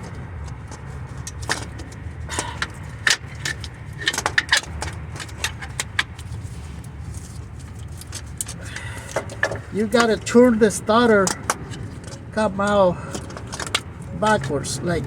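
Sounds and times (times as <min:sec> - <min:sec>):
metallic clinks and knocks: 0:00.0 - 0:14.6.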